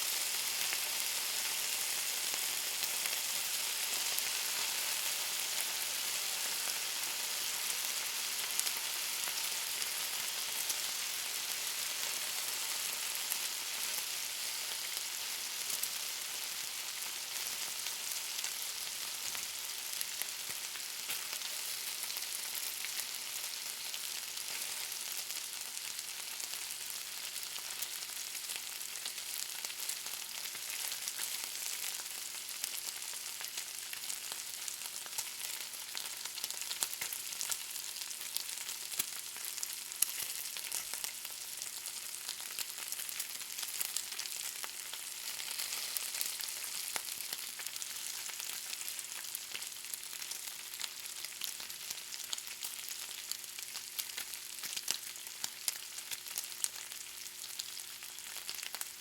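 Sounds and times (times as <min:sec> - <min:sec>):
bacon sizzling and crackling: 0:00.0 - 0:59.0.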